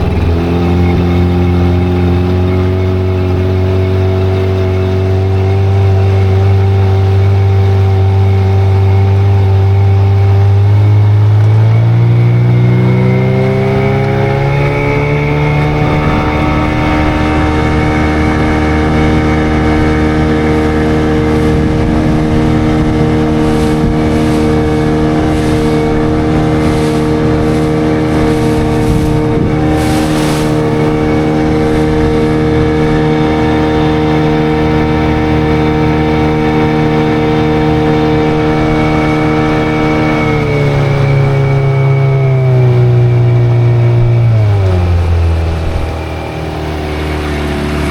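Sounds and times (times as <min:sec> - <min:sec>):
engine running and speeding up: 0:00.0 - 0:47.9.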